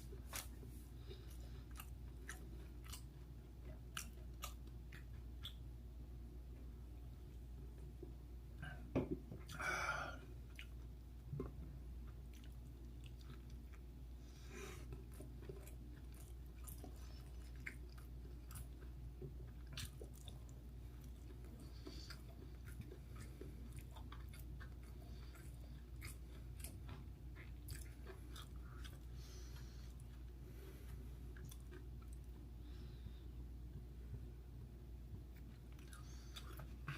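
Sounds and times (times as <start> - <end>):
person chewing: 0.0 - 5.8, 9.4 - 32.7, 35.3 - 36.9.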